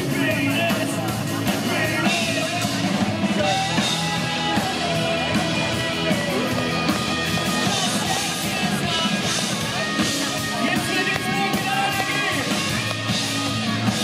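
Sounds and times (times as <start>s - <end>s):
bass guitar: 0.0s - 14.0s
drum kit: 0.0s - 14.0s
electric guitar: 0.0s - 14.0s
lead singer: 0.0s - 14.0s.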